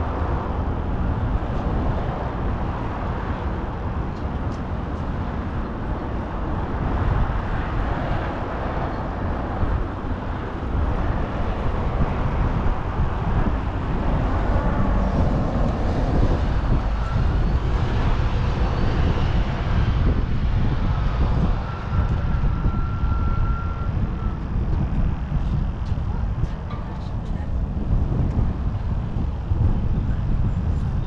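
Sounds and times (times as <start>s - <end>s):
road traffic: 0.0s - 31.0s
wind buffeting microphone: 0.0s - 31.0s.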